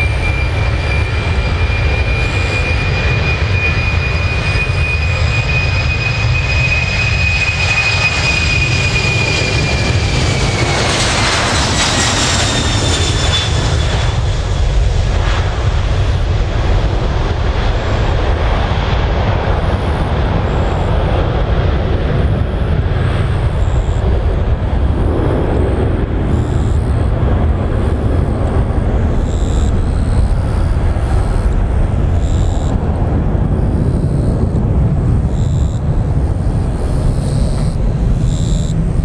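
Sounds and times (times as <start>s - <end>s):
jet airliner climbing: 0.0s - 39.0s.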